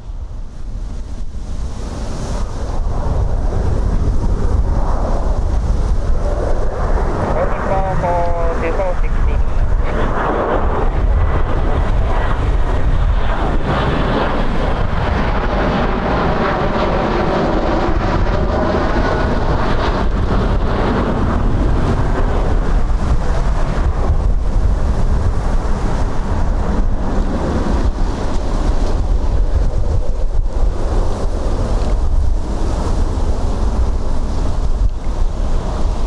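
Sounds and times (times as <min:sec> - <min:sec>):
jet airliner engine noise: 0:00.0 - 0:36.0
wind buffeting microphone: 0:00.0 - 0:36.0.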